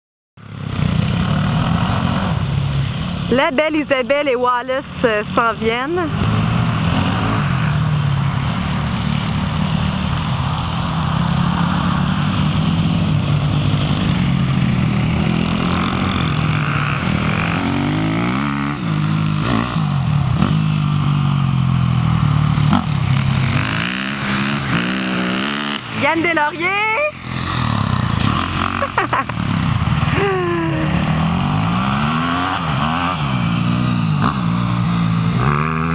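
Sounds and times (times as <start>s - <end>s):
dirt bike engines revving: 0.4s - 35.9s.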